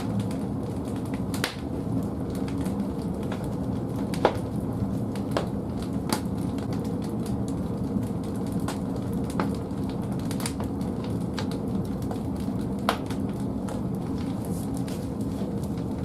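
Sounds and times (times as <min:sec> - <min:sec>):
fire crackles and pops: 0:00.0 - 0:16.0
fire roaring: 0:00.0 - 0:16.0.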